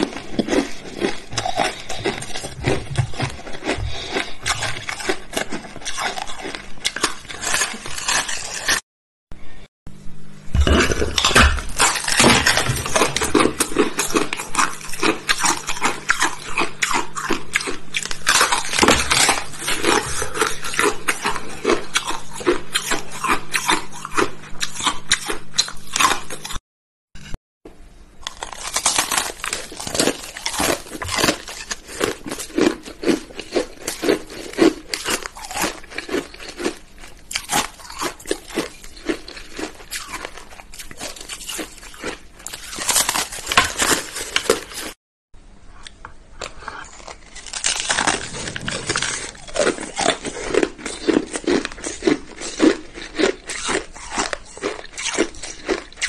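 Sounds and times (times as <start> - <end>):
ice being chewed: 0.0 - 8.8, 10.6 - 26.6, 28.2 - 45.0, 45.8 - 56.0.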